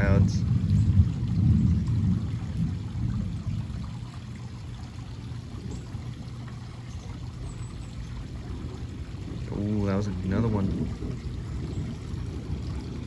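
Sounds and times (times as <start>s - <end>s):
thunder rumbling: 0.0s - 4.8s, 7.3s - 13.0s
steady rain falling: 0.0s - 13.0s.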